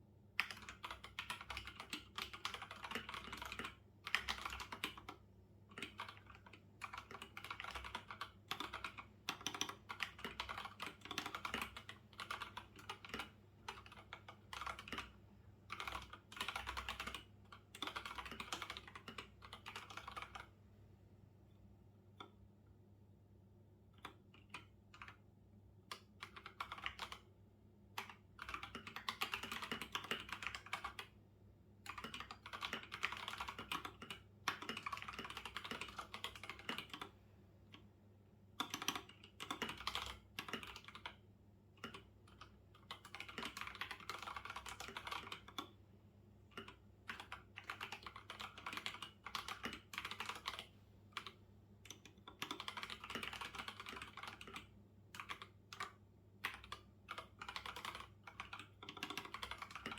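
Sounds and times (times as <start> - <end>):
typing on computer keyboard: 0.4 - 20.6, 23.9 - 25.2, 25.8 - 27.3, 28.0 - 31.2, 31.8 - 37.1, 38.6 - 45.8, 46.5 - 59.9.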